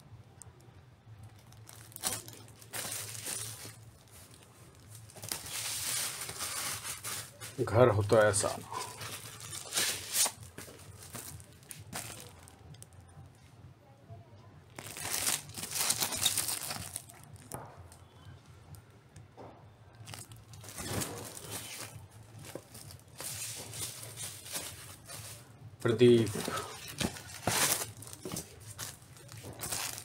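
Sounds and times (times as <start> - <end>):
plastic record covers crinkling: 0.3 - 13.3, 14.7 - 18.1, 19.9 - 30.0.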